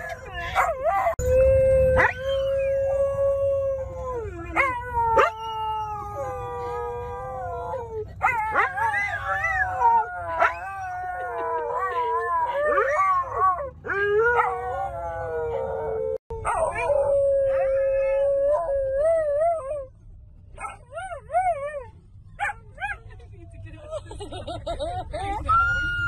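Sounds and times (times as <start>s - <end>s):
car rumble: 0.0s - 26.0s.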